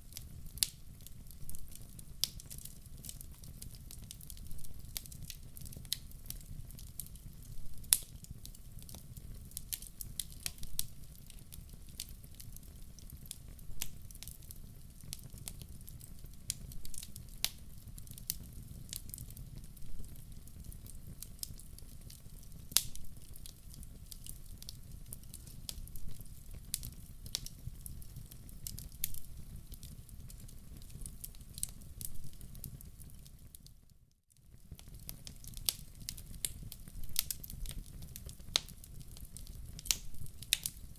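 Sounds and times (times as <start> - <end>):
rumble of flames: 0.0 - 33.5
logs crackling and popping: 0.0 - 33.7, 34.5 - 40.9.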